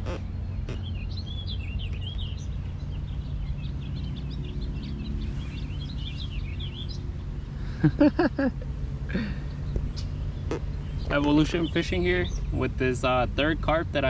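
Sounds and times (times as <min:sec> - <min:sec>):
low background rumble: 0:00.0 - 0:14.0
songbirds chirping: 0:00.0 - 0:14.0.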